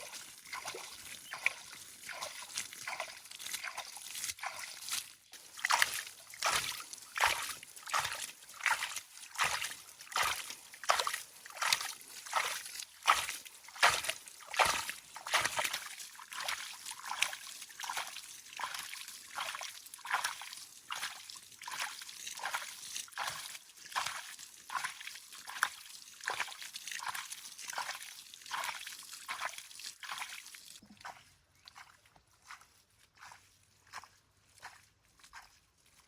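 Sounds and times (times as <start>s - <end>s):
water sloshing: 0.0s - 36.0s.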